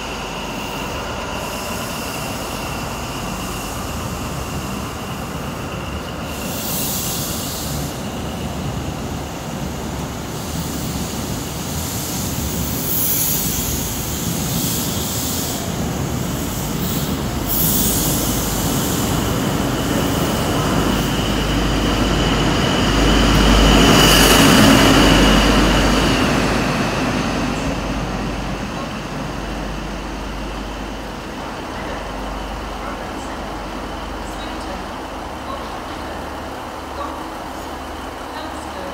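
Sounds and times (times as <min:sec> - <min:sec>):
train coaches rolling past: 0:00.0 - 0:38.9.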